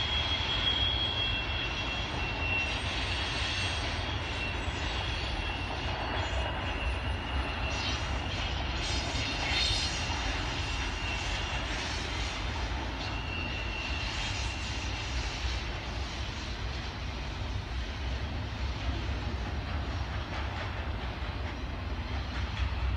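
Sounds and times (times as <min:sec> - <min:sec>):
steel wheels rumbling on track: 0:00.0 - 0:22.9.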